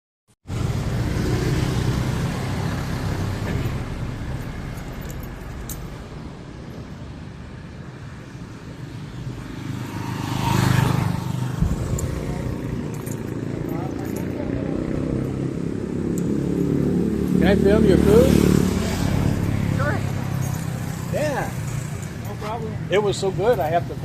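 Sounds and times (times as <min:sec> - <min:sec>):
motor vehicle passing close: 0:00.5 - 0:06.6, 0:09.3 - 0:23.6
vehicle engine: 0:00.5 - 0:24.0.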